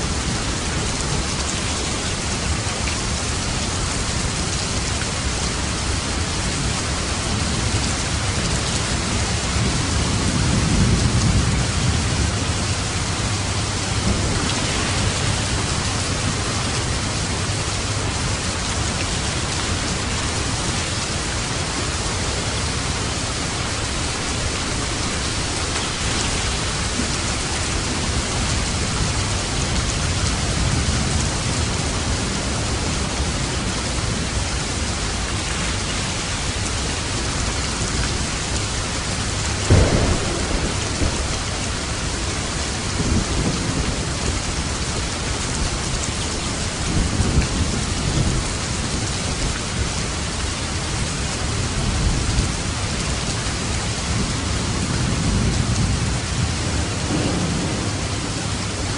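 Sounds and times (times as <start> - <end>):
steady rain hissing: 0.0 - 58.9.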